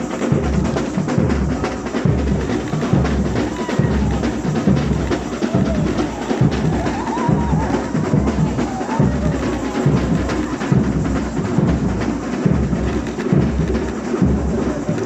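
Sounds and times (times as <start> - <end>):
deep bass drums: 0.0 - 15.0
drums and percussion: 0.0 - 15.0.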